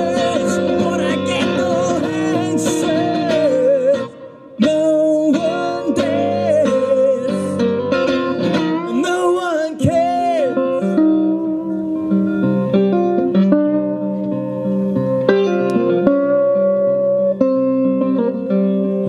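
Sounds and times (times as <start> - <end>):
resonator guitar picking: 0.0 - 19.0.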